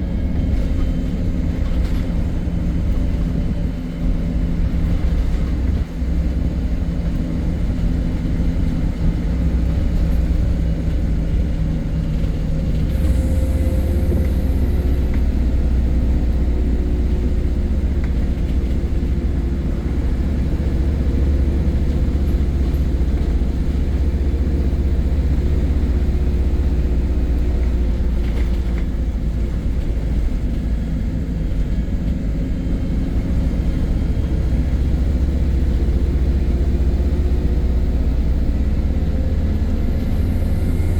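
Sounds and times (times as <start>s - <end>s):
bus diesel engine drone: 0.0s - 40.9s.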